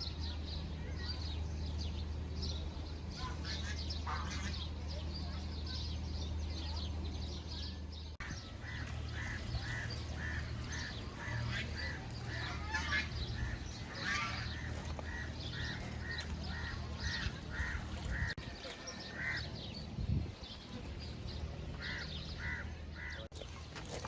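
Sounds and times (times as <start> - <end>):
farm birds calling: 0.0 - 24.0
low steady hum: 0.0 - 24.0.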